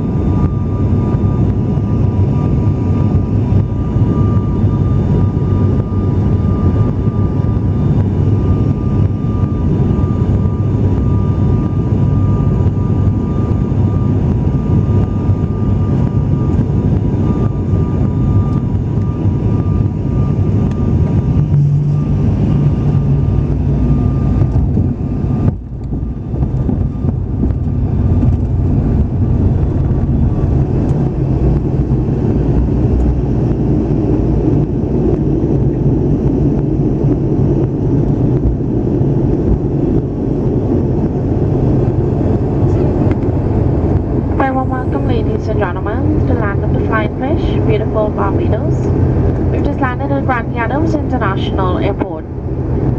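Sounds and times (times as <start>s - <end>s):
drone of engines and airflow: 0.0s - 52.9s.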